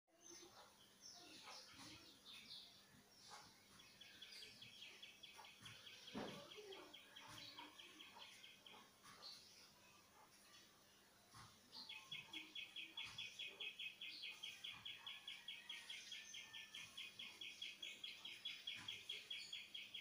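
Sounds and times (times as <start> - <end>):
faint birdsong: 0.1 - 20.0.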